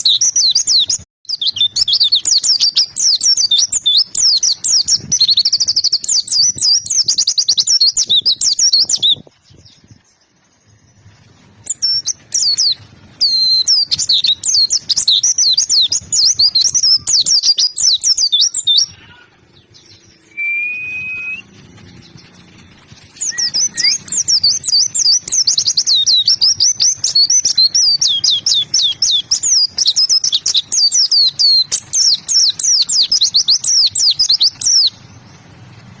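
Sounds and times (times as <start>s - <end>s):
bird whistle: 0.0s - 9.2s, 11.7s - 19.2s, 19.8s - 21.5s, 23.2s - 35.0s
bird chirping: 0.0s - 35.9s.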